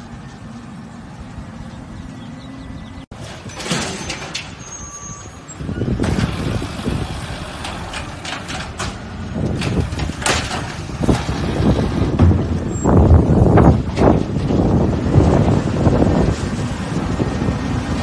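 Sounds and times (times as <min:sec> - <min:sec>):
garbage truck rumbling: 0:00.0 - 0:18.0.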